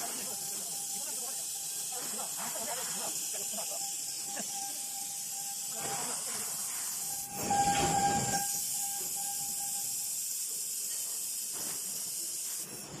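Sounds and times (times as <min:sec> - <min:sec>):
laser weld hissing: 0:00.0 - 0:13.0.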